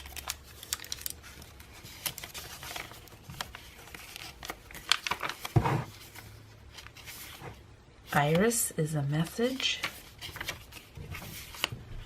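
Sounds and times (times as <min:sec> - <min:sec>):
paper crinkling rustles: 0:00.0 - 0:08.6, 0:09.2 - 0:12.0
paper pages being turned: 0:00.0 - 0:08.6, 0:09.2 - 0:12.0.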